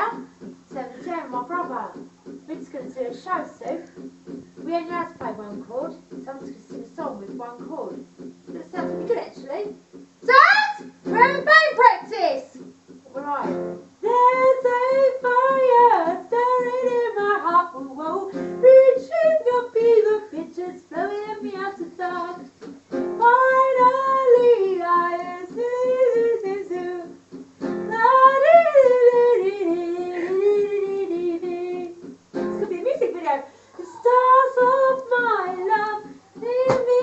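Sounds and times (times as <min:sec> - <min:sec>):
woman singing: 0:00.0 - 0:04.0, 0:04.6 - 0:12.3, 0:13.1 - 0:22.5, 0:23.2 - 0:27.2, 0:27.9 - 0:37.0.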